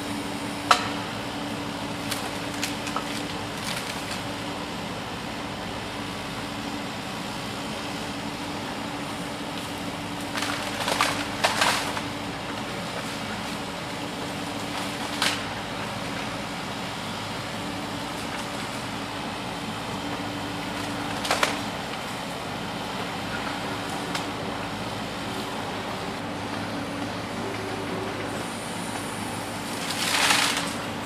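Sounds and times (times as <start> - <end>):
heavy machinery engine hum: 0.0 - 31.0.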